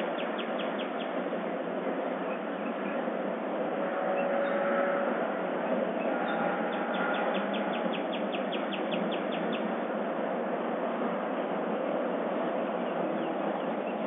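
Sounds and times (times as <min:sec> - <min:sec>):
dawn chorus birdsong: 0:00.0 - 0:01.5, 0:02.1 - 0:03.2, 0:03.8 - 0:10.2, 0:11.3 - 0:14.0.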